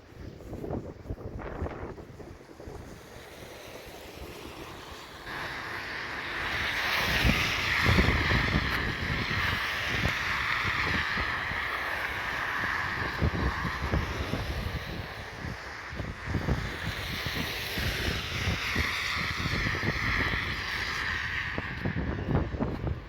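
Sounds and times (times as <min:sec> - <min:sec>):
steady rushing hiss: 0:00.0 - 0:23.0
wind buffeting microphone: 0:00.0 - 0:23.0.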